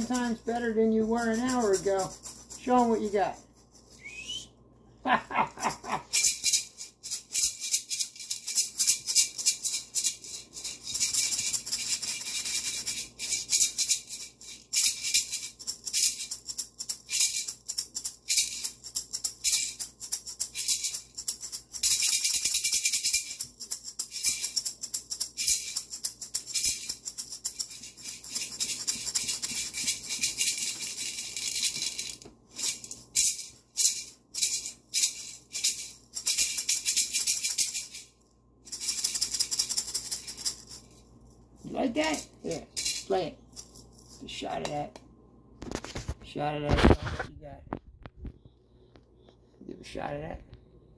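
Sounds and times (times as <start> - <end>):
maracas rattling: 0.0 - 4.5, 5.3 - 44.9.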